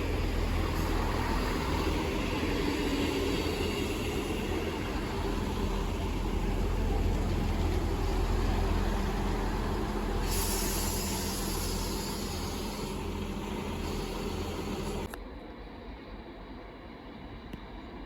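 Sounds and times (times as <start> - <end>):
hiss: 0.0 - 15.1
diesel train rumbling: 0.0 - 18.0.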